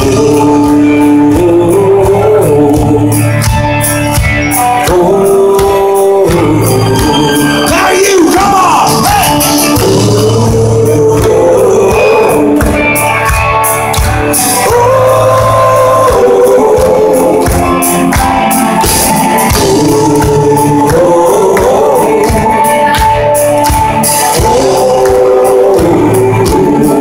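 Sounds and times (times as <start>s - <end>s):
group vocals: 0.0s - 4.0s, 4.6s - 27.0s
live rock band: 0.0s - 27.0s.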